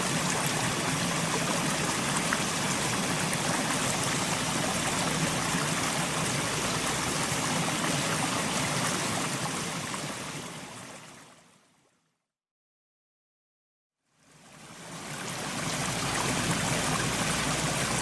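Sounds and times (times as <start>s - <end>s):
stream gurgling over rocks: 0.0s - 11.4s, 14.2s - 18.0s.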